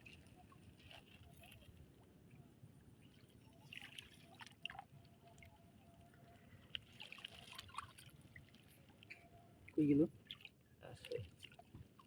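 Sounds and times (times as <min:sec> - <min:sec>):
small water splashes and trickles: 0:00.0 - 0:12.0.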